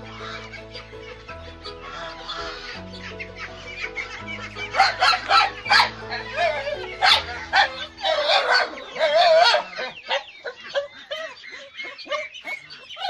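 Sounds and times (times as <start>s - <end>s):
dogs barking and yipping: 0.0s - 13.0s.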